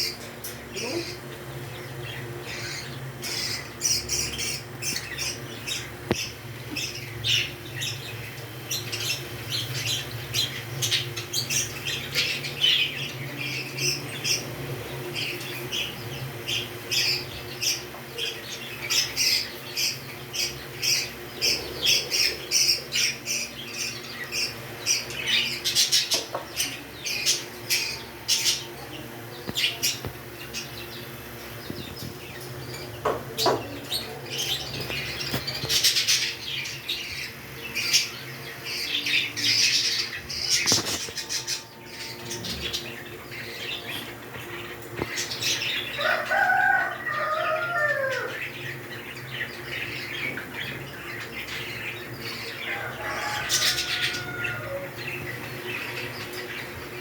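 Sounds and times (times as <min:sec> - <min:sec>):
parrots chirping and squawking: 0:00.0 - 0:28.8, 0:29.4 - 0:57.0.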